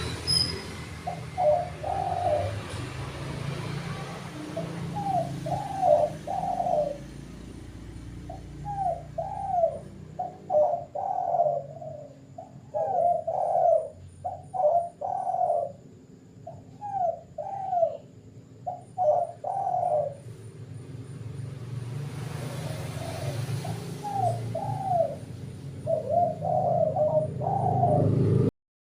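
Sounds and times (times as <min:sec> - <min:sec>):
doves cooing: 0:00.0 - 0:28.5.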